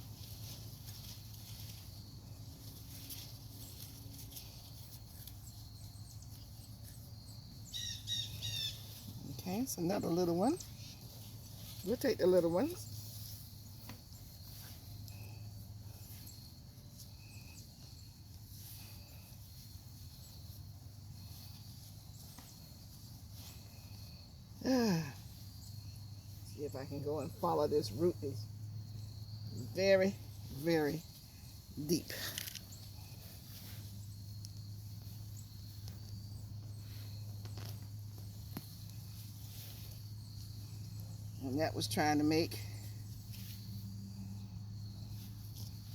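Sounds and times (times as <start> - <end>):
high insect drone: 0.0 - 45.9
steady low hum: 0.0 - 45.9.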